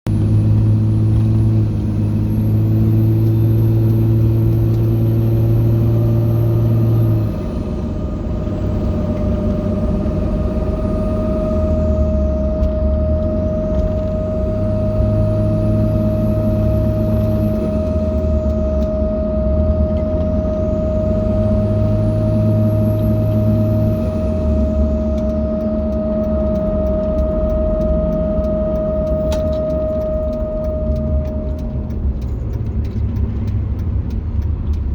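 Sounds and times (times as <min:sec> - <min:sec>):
diesel engine humming whine: 0:00.0 - 0:34.9.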